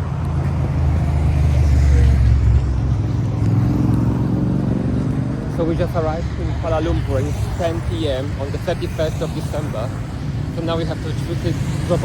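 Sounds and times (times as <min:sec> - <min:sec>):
motor vehicle rumbling: 0:00.0 - 0:12.0.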